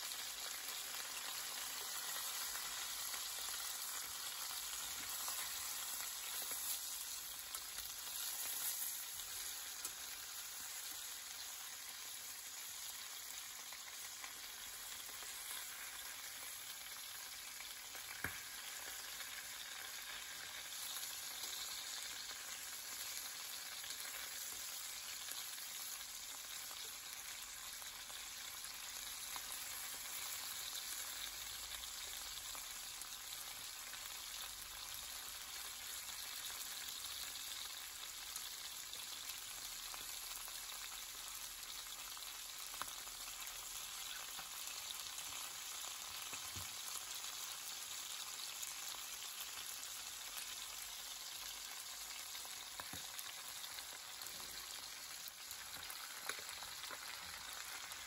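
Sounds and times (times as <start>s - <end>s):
chicken frying in oil: 0.0s - 58.0s.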